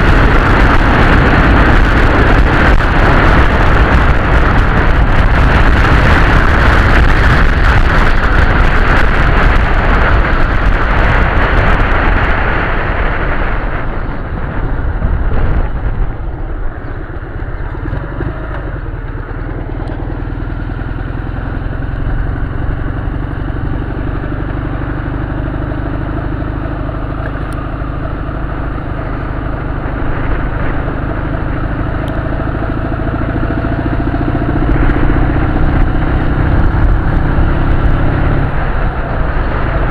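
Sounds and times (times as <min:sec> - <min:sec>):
heavy wind rush: 0:00.0 - 0:39.9
motorcycle engine running: 0:00.0 - 0:39.9.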